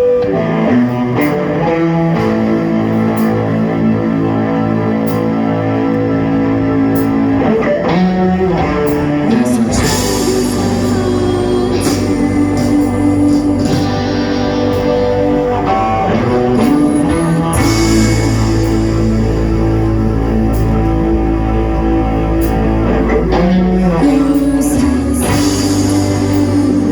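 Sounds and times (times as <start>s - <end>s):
heavy bass line: 0.0s - 26.9s
rock band playing: 0.0s - 26.9s.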